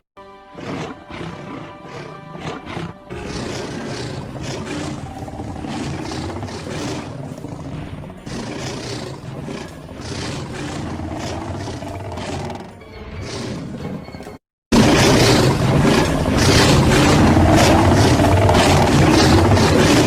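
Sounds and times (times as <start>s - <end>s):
dinosaur roaring and growling: 0.6s - 14.0s, 14.7s - 20.0s.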